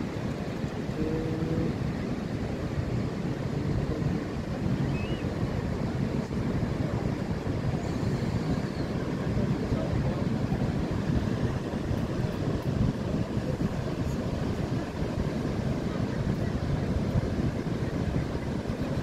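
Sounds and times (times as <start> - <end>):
sea surf: 0.0 - 19.0
wind on microphone: 0.0 - 19.0.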